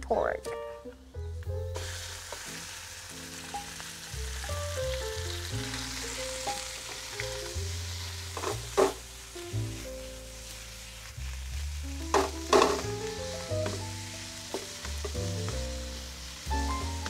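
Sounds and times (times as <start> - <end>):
meat sizzling in hot oil: 1.6 - 17.0.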